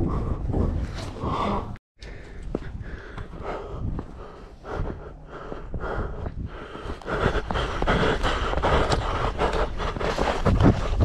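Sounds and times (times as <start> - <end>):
person breathing hard: 0.0 - 11.0.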